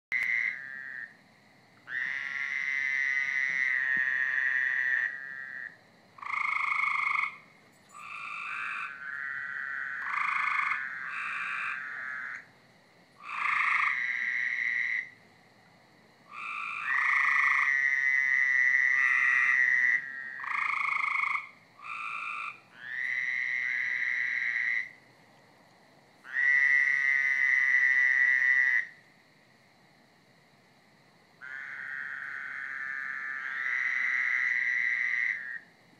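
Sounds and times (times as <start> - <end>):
frogs calling: 0.1 - 25.6, 26.2 - 29.5, 31.3 - 35.9.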